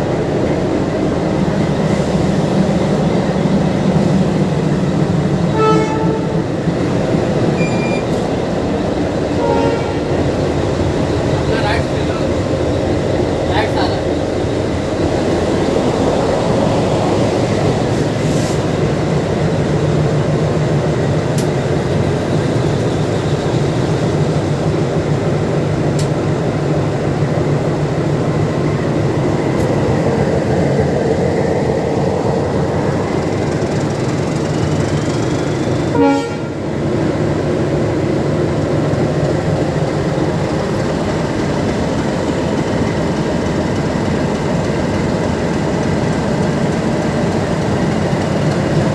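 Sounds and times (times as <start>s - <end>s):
diesel locomotive engine running: 0.0s - 48.9s.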